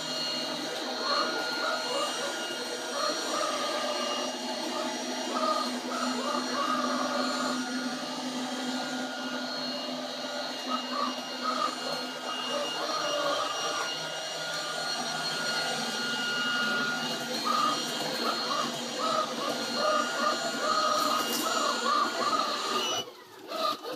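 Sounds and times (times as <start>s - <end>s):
robot vacuum cleaner hum: 0.0s - 23.9s.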